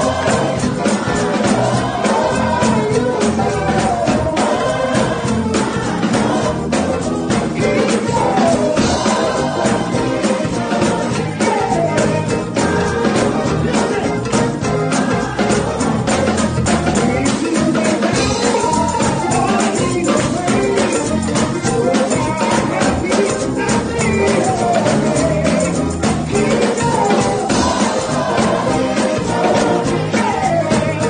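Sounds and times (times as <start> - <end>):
choir singing: 0.0 - 31.0
drums: 0.0 - 31.0
tambourines struck: 0.0 - 31.0.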